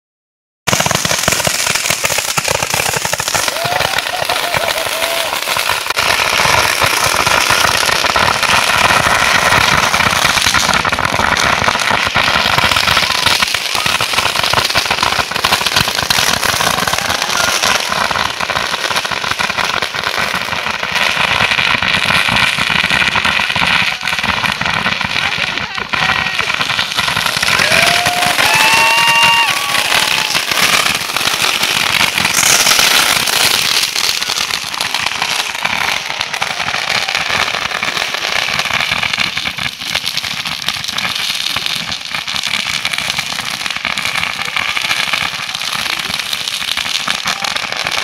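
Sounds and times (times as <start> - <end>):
fireworks crackling and popping: 0.6 - 48.0.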